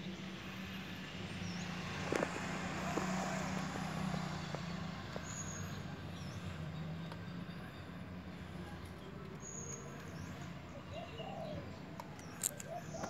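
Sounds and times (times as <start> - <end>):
low rumble of vehicle engines: 0.0 - 13.0.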